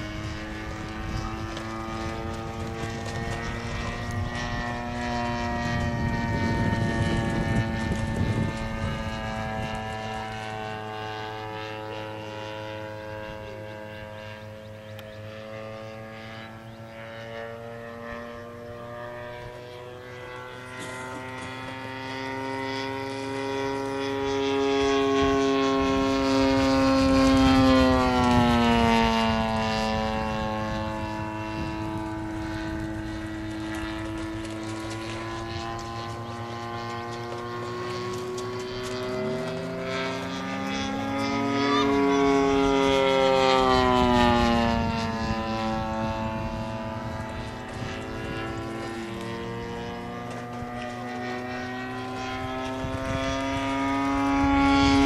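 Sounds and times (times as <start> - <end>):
model plane propeller engine droning: 0.0 - 55.0.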